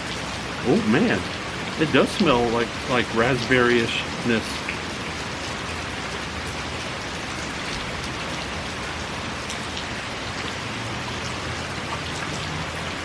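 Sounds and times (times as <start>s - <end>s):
heavy rain pouring: 0.0s - 13.0s
raindrops clicking close by: 0.0s - 13.0s.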